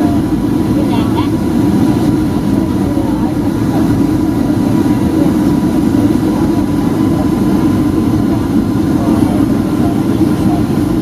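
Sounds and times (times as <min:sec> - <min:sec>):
jet engines and airframe rumbling: 0:00.0 - 0:11.0
thin steady whine: 0:00.0 - 0:11.0.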